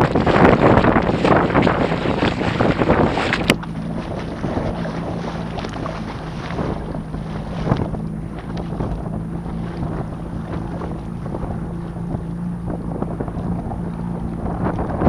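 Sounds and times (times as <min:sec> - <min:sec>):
outboard motor running: 0:00.0 - 0:15.0
water spray against hull: 0:00.0 - 0:15.0
wind buffeting microphone: 0:00.0 - 0:15.0.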